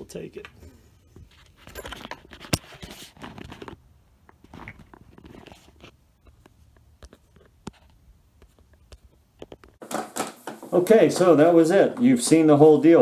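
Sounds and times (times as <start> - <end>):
rustling: 0.5 - 11.7.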